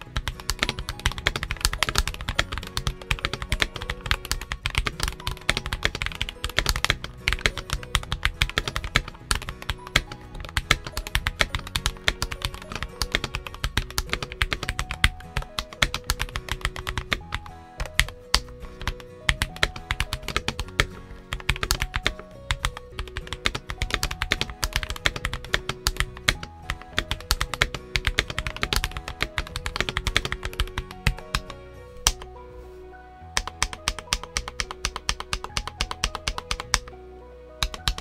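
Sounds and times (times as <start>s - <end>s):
mechanical keyboard typing: 0.0s - 32.2s, 33.4s - 36.9s, 37.6s - 38.0s
background music with bass line: 0.0s - 38.0s.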